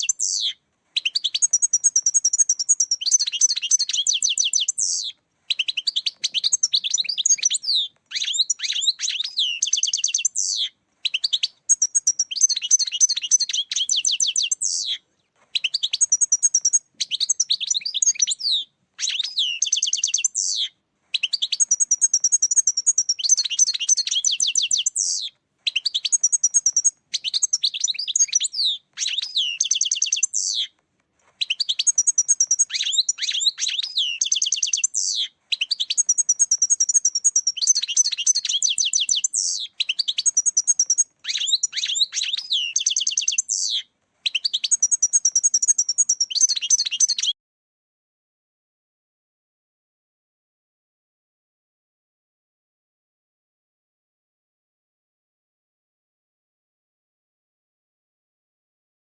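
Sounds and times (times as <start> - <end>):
finch twittering song: 0.0 - 47.4.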